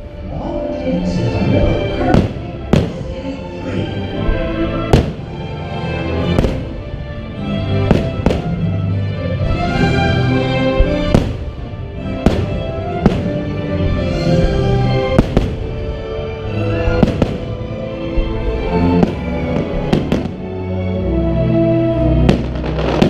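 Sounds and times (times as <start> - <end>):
loud music: 0.0 - 23.0
fireworks bangs: 2.0 - 3.4, 4.1 - 20.4, 22.2 - 23.0.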